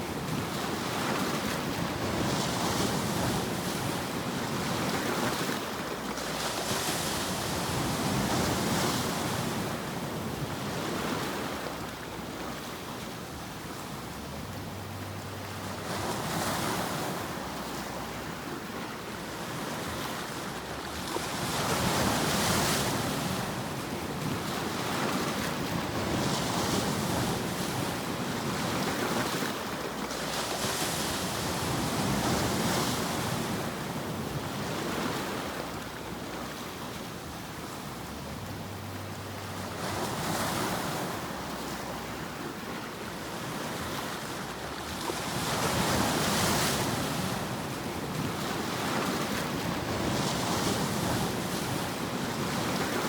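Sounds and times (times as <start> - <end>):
waves breaking and washing in: 0.0 - 53.0.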